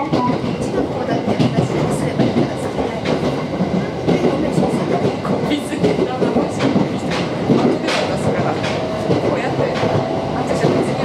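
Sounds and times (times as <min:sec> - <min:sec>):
train cabin rumble: 0:00.0 - 0:11.0
wheels clicking over rails: 0:00.1 - 0:11.0.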